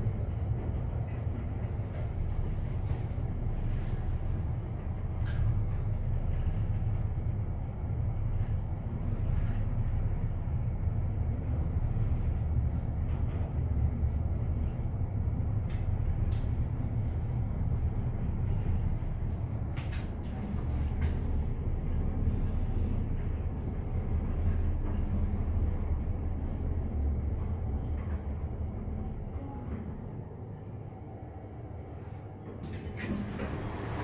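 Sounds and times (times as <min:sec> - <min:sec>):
elevator ride low rumble: 0:00.0 - 0:34.0.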